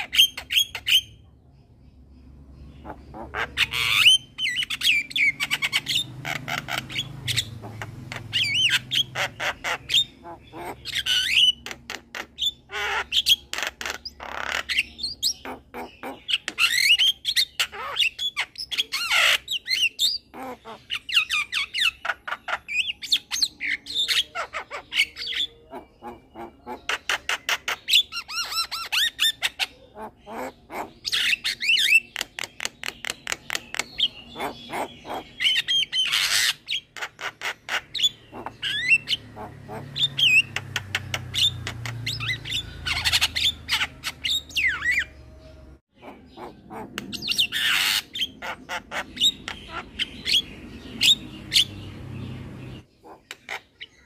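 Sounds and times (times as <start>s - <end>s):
myna bird singing: 0.0s - 54.0s.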